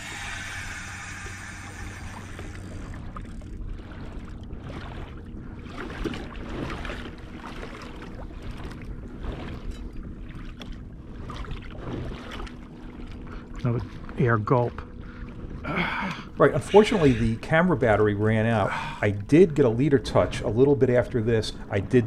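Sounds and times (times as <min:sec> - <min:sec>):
water rushing along kayak hull: 0:00.0 - 0:22.0.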